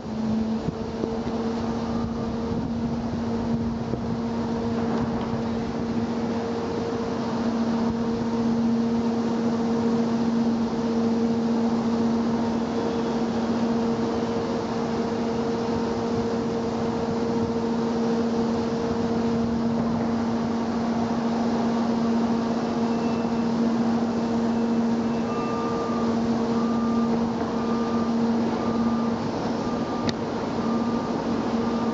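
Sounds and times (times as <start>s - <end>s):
low two-note mechanical drone: 0.0s - 31.9s.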